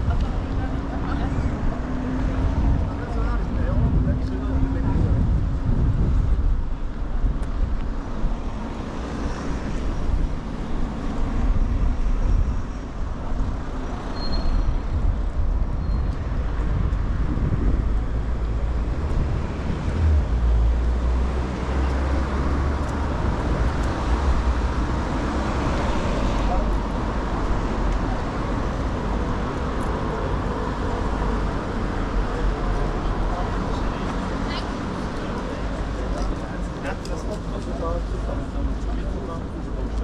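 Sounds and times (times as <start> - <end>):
passing vehicles: 0.0 - 40.0.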